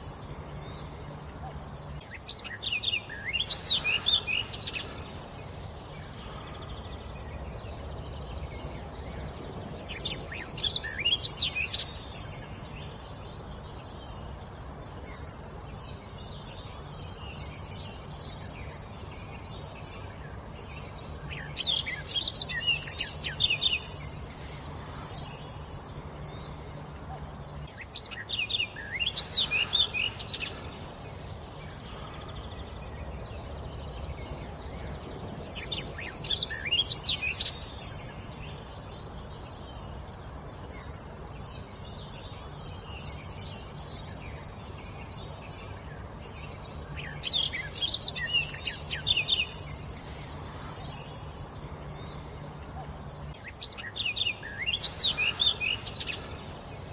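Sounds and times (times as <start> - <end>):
songbird chirping: 0.0 - 56.9.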